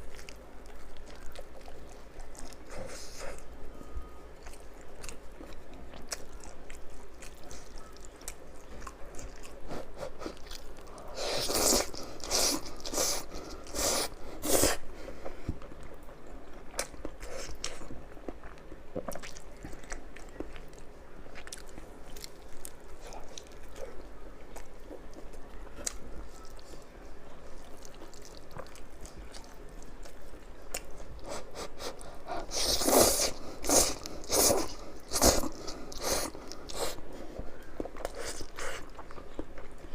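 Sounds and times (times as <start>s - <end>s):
chewing with wet clicks: 0.0s - 13.9s, 15.5s - 31.4s, 32.0s - 39.9s.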